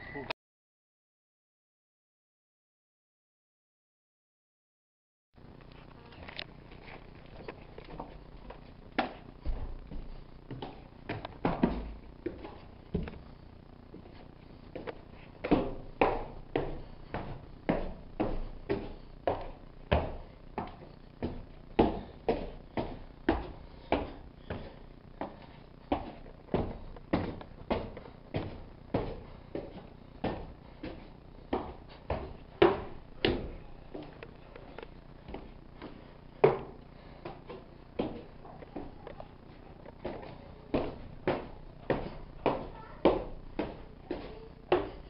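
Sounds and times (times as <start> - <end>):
footsteps on wooden stairs: 6.8 - 45.0.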